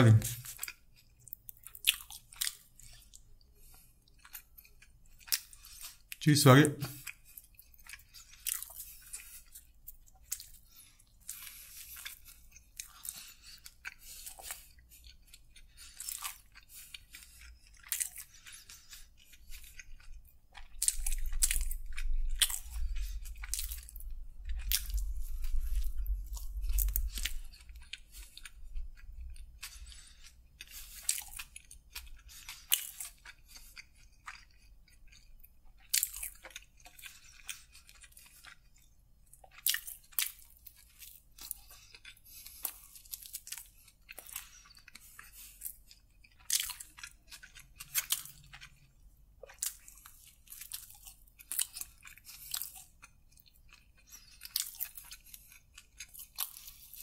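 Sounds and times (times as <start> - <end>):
chewing and biting sandwich: 0.0 - 57.0.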